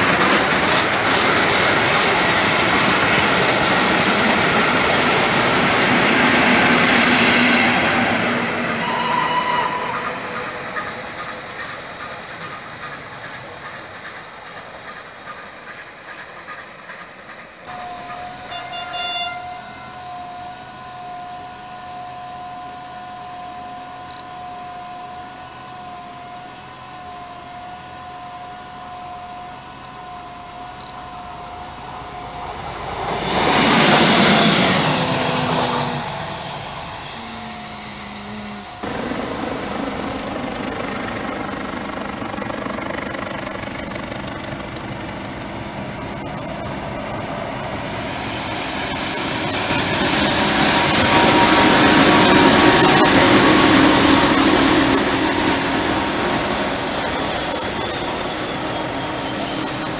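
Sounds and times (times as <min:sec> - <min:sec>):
diesel locomotive approaching: 0:00.0 - 0:59.9
diesel railcar passing: 0:00.0 - 0:59.9.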